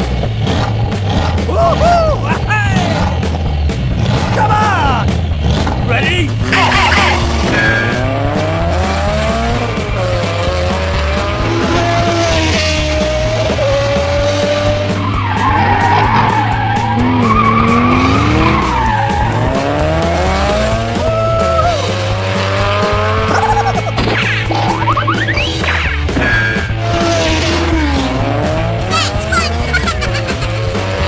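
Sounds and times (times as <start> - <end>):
music: 0.0 - 31.0
race car engine revving: 0.0 - 31.0.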